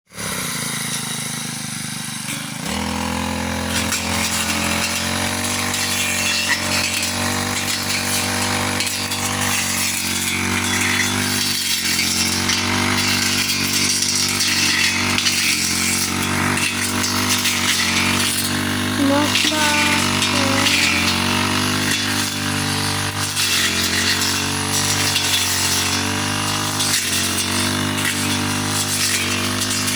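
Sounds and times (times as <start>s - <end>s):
grass cutter engine running: 0.1s - 29.9s.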